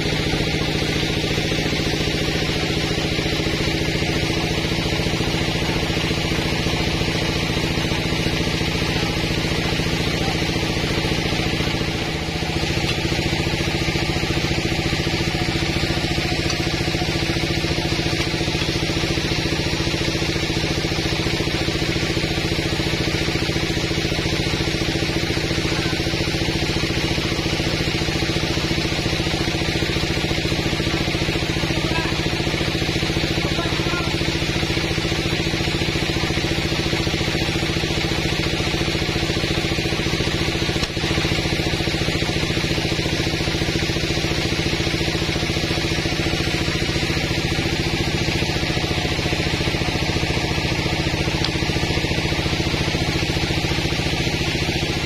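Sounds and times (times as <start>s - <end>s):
band sawmill droning: 0.0s - 55.0s.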